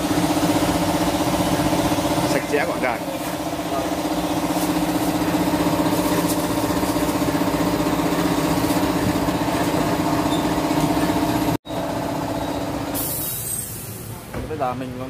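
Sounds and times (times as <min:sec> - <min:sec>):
machinery motor humming: 0:00.0 - 0:12.9.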